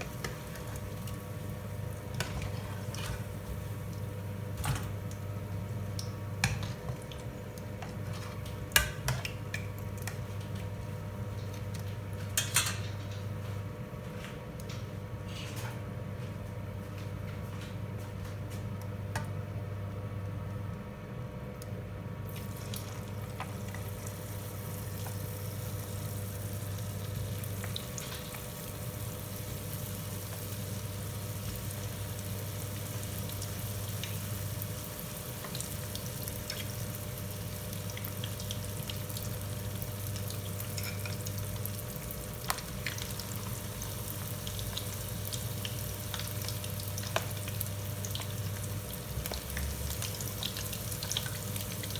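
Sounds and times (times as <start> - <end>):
food frying in hot oil: 0.0 - 13.0, 22.2 - 51.9.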